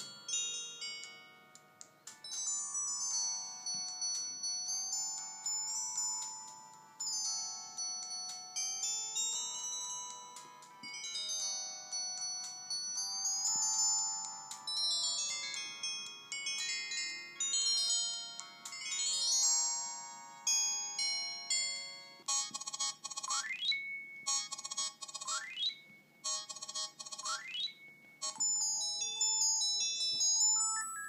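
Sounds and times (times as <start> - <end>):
phone ringtone melody: 0.0 - 1.6, 2.2 - 31.0.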